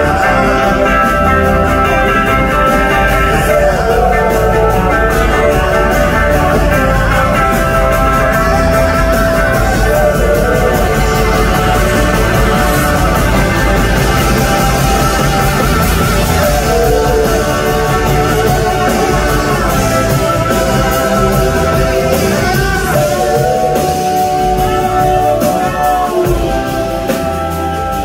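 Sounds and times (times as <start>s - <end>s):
gliding electric guitar line: 0.0s - 28.0s
live rock band playing: 0.0s - 28.0s.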